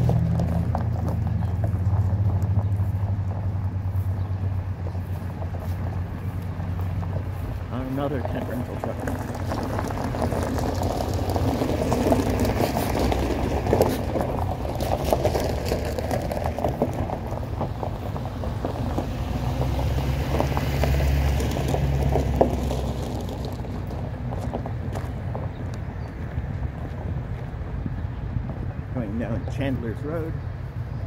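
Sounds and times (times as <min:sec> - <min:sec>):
truck engine rumble: 0:00.0 - 0:31.0
wind buffeting microphone: 0:00.0 - 0:31.0.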